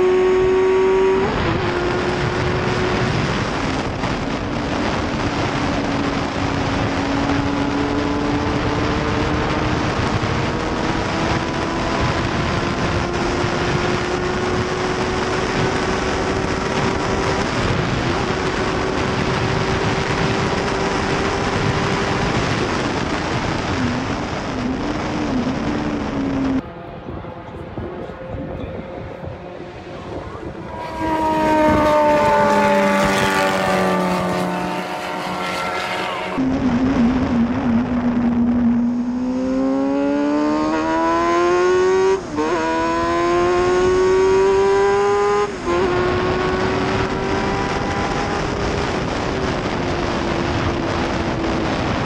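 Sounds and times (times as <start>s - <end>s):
race car engine at high revs: 0.0s - 52.0s
wind and road noise: 0.0s - 52.0s
wind on microphone: 0.0s - 52.0s.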